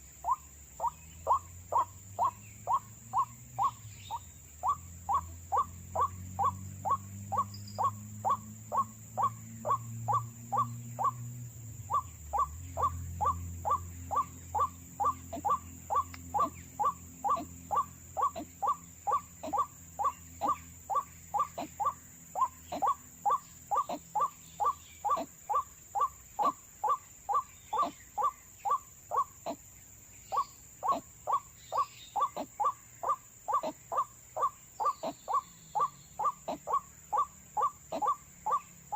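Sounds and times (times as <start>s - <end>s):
waterhen calling: 0.0s - 11.2s, 11.9s - 29.6s, 30.2s - 38.9s.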